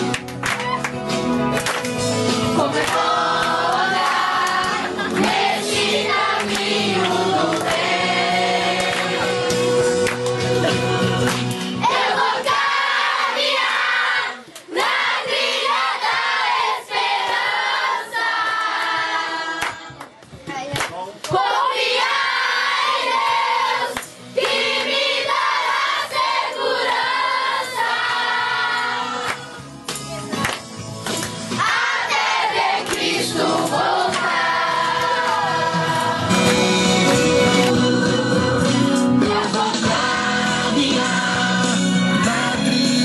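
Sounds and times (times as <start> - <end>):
children singing together: 2.6 - 10.0, 11.8 - 19.9, 21.4 - 29.3, 31.6 - 43.0.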